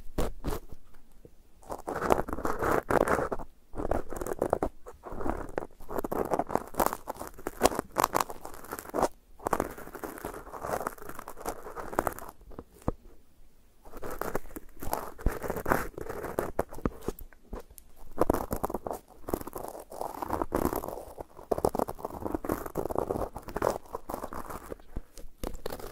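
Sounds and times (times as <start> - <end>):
fingertips scratching a microphone: 0.0 - 0.8, 1.6 - 13.0, 13.9 - 25.9.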